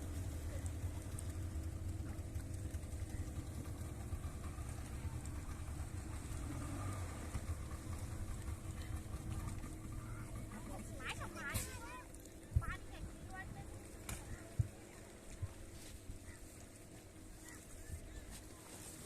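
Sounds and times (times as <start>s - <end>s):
motorboat engine rumble: 0.0s - 19.0s.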